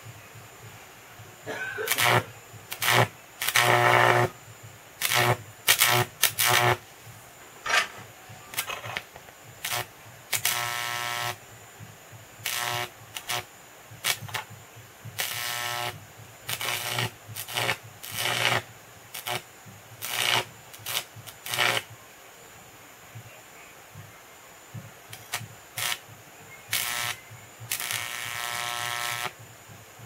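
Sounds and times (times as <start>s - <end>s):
electric arc buzzing and crackling: 1.7s - 22.0s, 24.9s - 29.7s.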